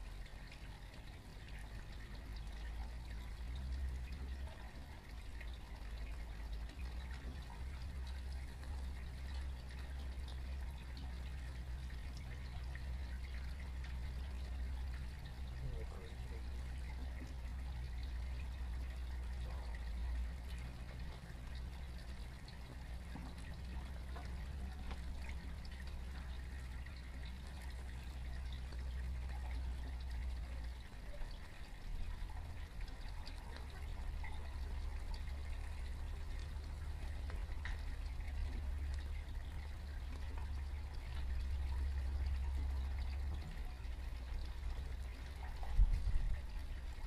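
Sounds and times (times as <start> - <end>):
wind rumble on microphone: 0.0 - 47.0.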